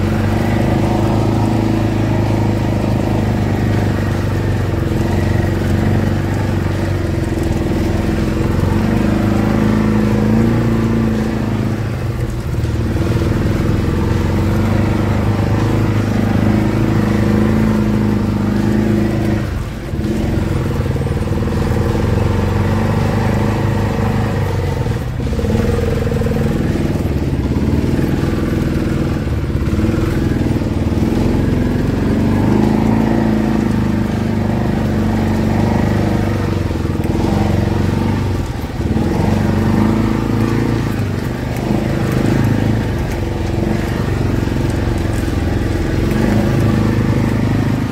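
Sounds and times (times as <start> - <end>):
utility vehicle engine under load: 0.0 - 47.9.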